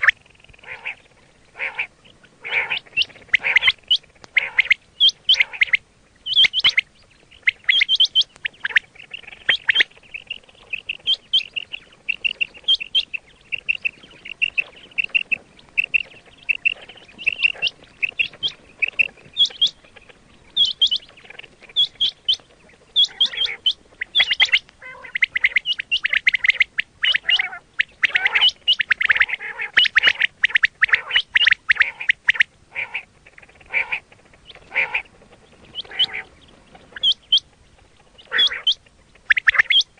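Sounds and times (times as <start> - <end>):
quail chirping: 0.0 - 39.9.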